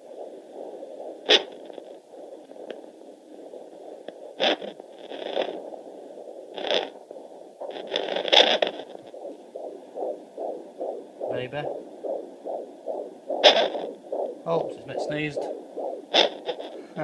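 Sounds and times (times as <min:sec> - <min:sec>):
probe scraping rasps: 0:00.1 - 0:17.0.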